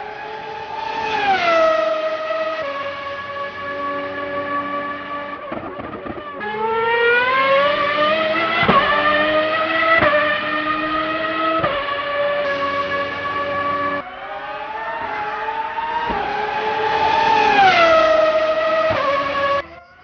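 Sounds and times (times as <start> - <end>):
racing car engine revving: 0.0 - 20.0.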